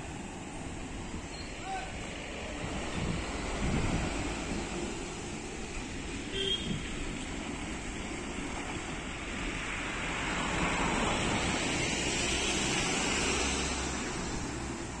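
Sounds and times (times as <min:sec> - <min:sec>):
bus passing on road: 0:00.0 - 0:15.0.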